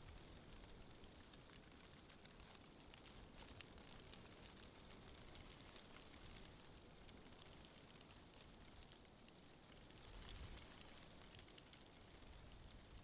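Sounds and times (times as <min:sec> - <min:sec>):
light crackling ticks: 0:00.0 - 0:13.0.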